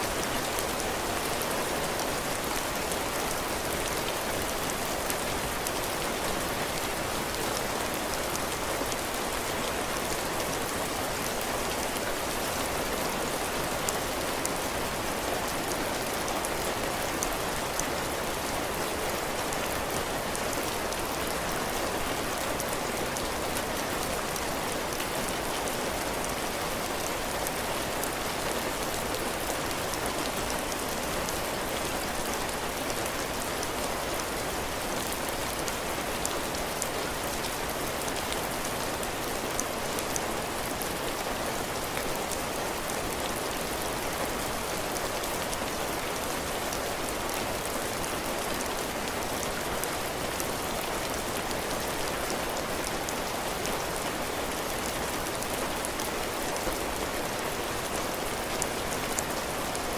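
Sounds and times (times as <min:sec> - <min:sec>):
heavy rain on roof: 0:00.0 - 0:59.9.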